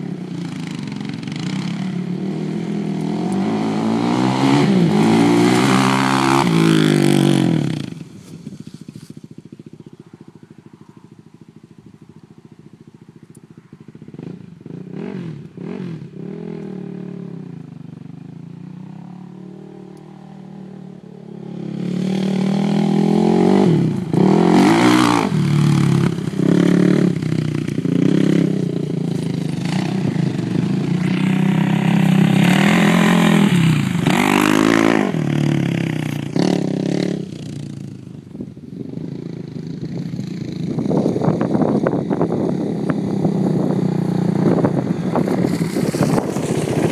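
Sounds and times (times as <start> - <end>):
quad engine revving: 0.0 - 8.3, 14.1 - 38.1, 38.8 - 46.9.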